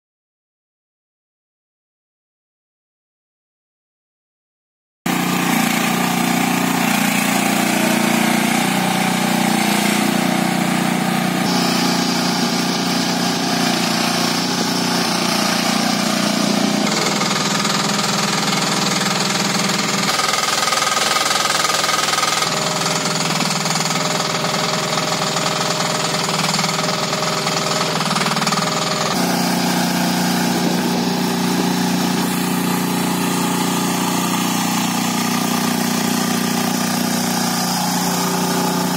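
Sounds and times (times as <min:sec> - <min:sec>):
mini excavator engine running: 0:05.1 - 0:38.9.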